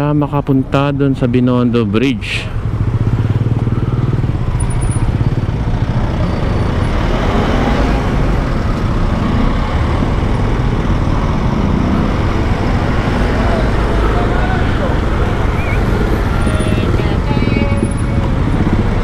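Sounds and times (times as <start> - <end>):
road noise: 0.0 - 19.0
scooter engine running: 2.6 - 19.0.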